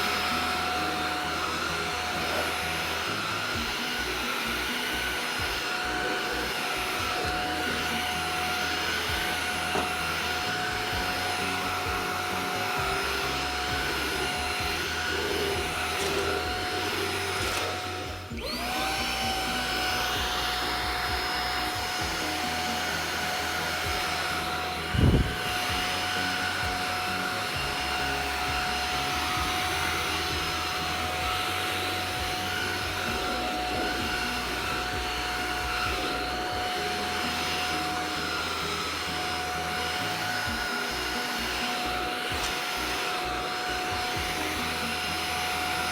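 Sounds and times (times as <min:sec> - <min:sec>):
stick vacuum whining: 0:00.0 - 0:45.9.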